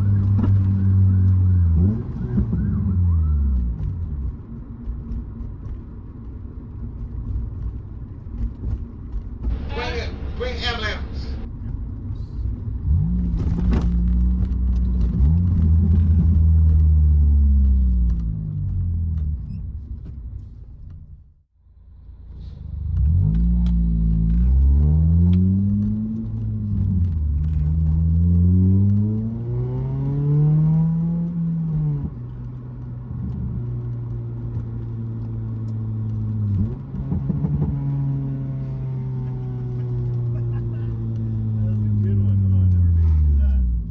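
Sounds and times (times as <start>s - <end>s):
car engine and exhaust: 0.0s - 43.9s.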